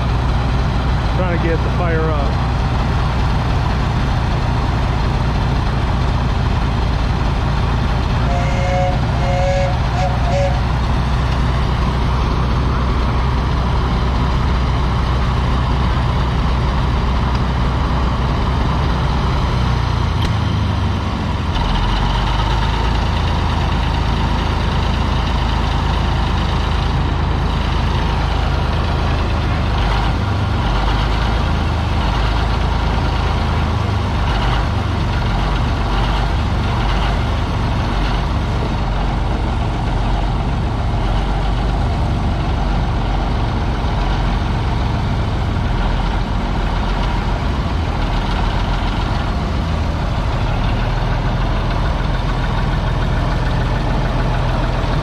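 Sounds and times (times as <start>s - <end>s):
bulldozer engine running: 0.0s - 55.0s.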